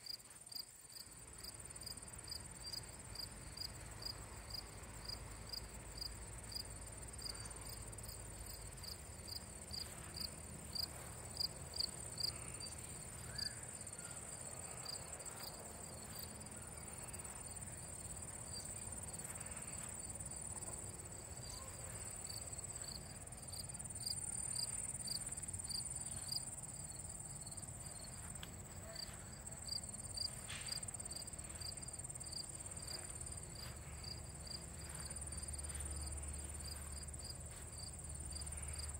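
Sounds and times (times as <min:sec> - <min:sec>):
crickets chirping: 0:00.0 - 0:38.9
high insect trill: 0:00.1 - 0:38.9.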